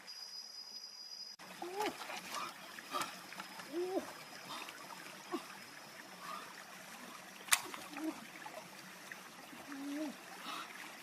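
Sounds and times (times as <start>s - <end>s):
running water: 1.4s - 11.0s.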